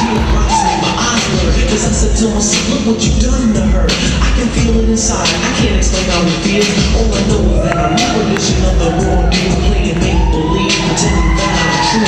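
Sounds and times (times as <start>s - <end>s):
dance music with heavy bass: 0.0s - 12.0s.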